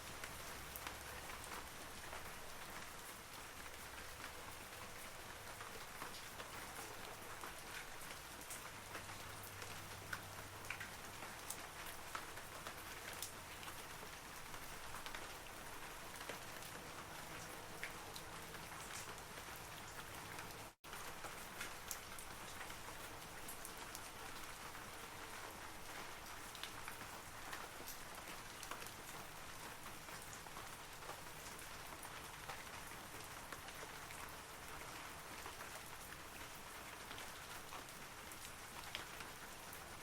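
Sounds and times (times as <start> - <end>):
rain falling on trees: 0.0 - 40.0.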